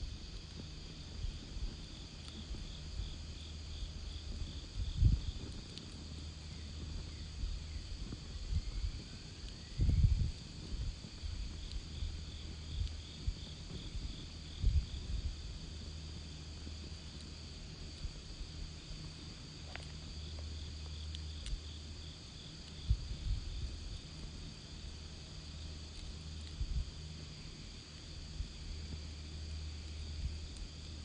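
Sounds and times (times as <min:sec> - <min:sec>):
low rumble: 0:00.0 - 0:22.1, 0:22.8 - 0:31.0
campfire crackles: 0:00.0 - 0:31.0
crickets chirping: 0:00.0 - 0:31.0
high insect drone: 0:00.0 - 0:31.0.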